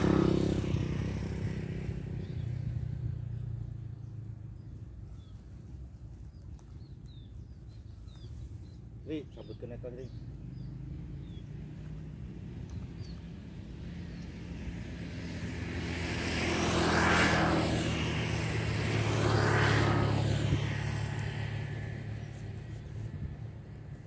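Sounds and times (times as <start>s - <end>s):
motor vehicle passing: 0.0s - 24.0s.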